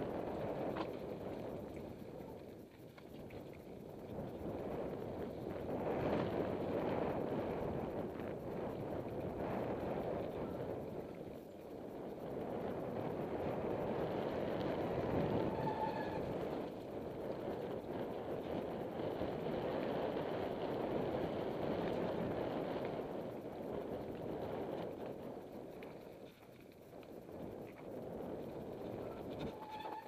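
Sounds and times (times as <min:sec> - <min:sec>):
bike tyres rolling on dirt: 0:00.0 - 0:30.0
wind rushing over microphone: 0:00.0 - 0:30.0.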